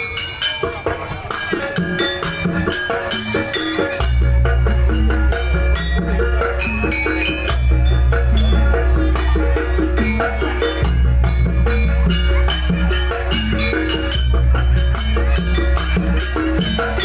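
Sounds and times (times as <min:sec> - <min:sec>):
struck metallophones ringing: 0:00.0 - 0:17.0
deep steady bass: 0:01.8 - 0:17.0.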